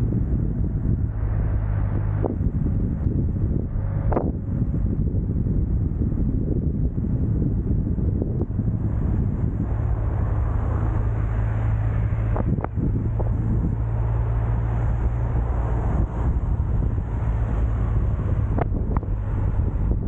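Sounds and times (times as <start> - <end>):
steady engine hum: 0.0 - 20.0
wind on microphone: 0.0 - 20.0.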